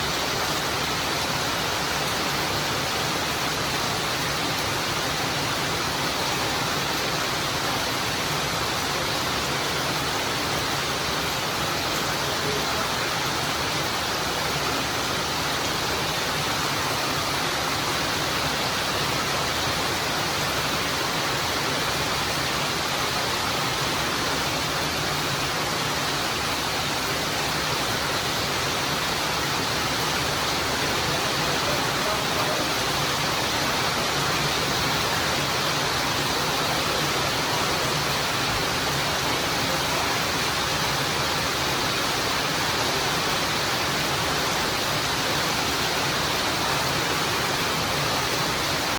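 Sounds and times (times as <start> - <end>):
heavy rain hiss: 0.0 - 48.9.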